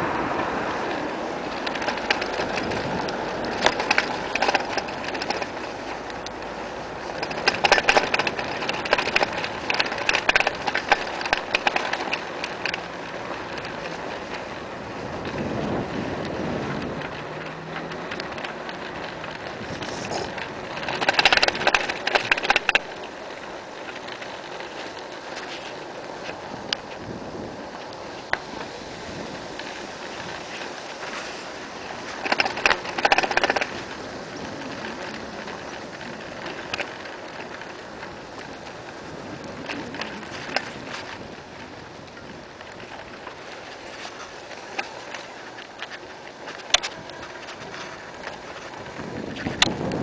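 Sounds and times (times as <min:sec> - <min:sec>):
bicycle rattling: 0:00.0 - 0:50.0
wind and tyre noise: 0:00.0 - 0:50.0.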